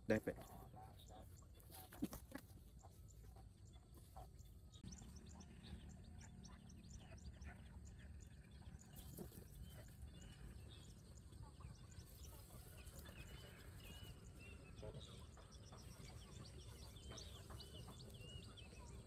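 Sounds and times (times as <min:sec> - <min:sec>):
distant small birds chirping: 0:00.0 - 0:19.0.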